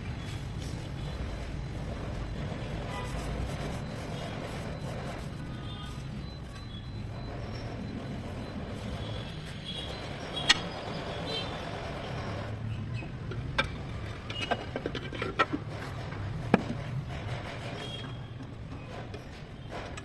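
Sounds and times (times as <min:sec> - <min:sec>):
vehicle engine rumbling: 0:00.0 - 0:19.8.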